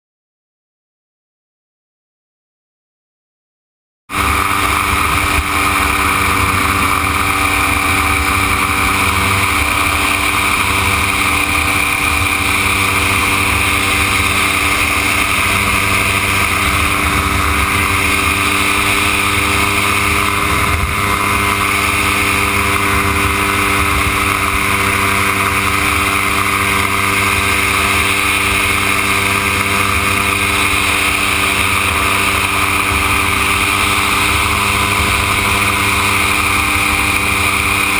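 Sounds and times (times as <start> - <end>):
aircraft engine and propeller running: 4.1 - 37.9.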